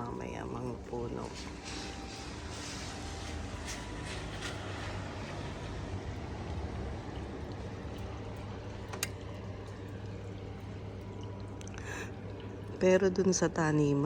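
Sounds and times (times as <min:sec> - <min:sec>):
wet snow and rain falling: 0:00.0 - 0:13.8.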